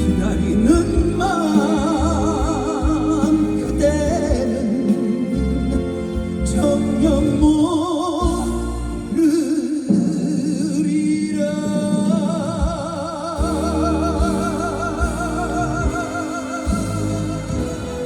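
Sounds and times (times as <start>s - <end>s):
backing band: 0.0s - 18.0s
man singing with vibrato: 0.0s - 18.0s.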